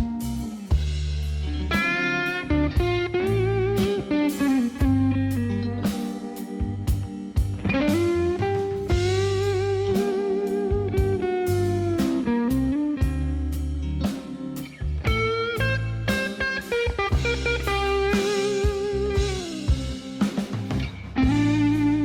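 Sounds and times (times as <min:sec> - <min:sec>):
bass: 0:00.0 - 0:22.0
blues lead guitar bending notes: 0:00.0 - 0:22.0
regular drum beat: 0:00.0 - 0:22.0.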